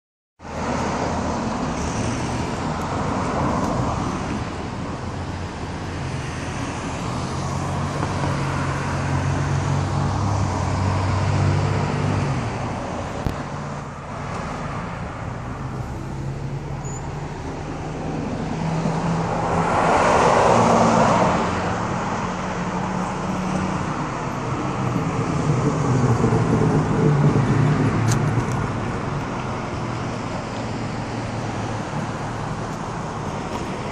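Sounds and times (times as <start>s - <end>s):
cars driving by: 0.4s - 33.9s.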